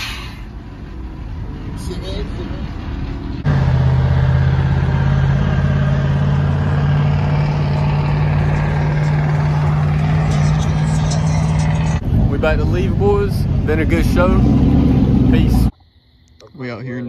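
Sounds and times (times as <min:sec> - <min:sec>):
vehicle engine droning: 0:00.0 - 0:15.8.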